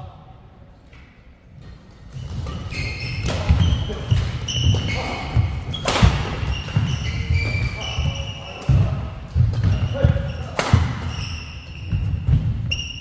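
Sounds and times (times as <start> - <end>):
court shoes squeaking: 1.6 - 13.0
rackets striking shuttlecock: 2.1 - 12.6.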